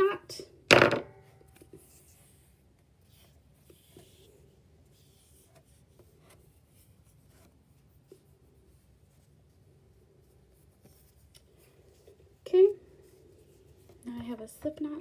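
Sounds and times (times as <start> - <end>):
hands rubbing yarn: 1.5 - 15.0.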